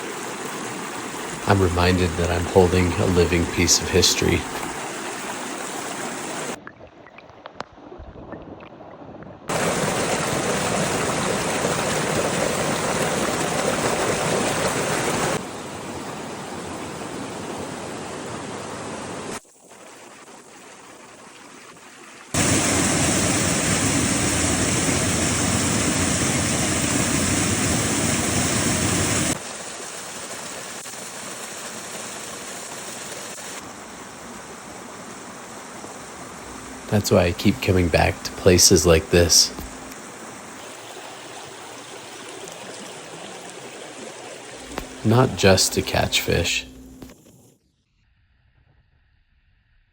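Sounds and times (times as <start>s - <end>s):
creek water rushing: 0.0s - 6.6s, 9.5s - 19.4s, 20.6s - 47.1s.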